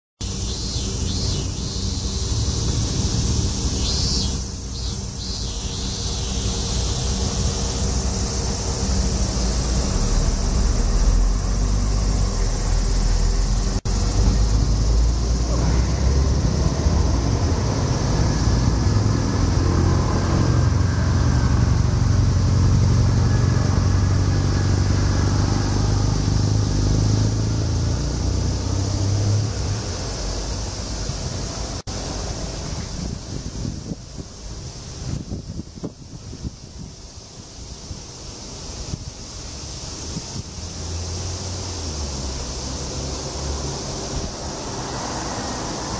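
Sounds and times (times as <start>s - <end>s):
cicadas droning: 0.2s - 45.9s.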